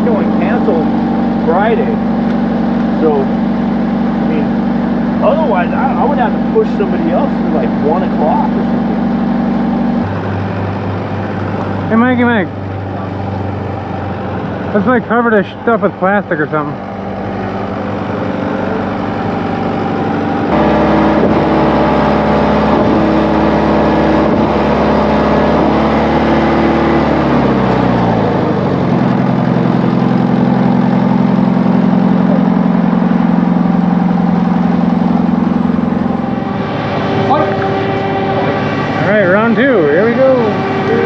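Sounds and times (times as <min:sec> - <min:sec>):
heavy truck diesel engine: 0:00.0 - 0:41.0.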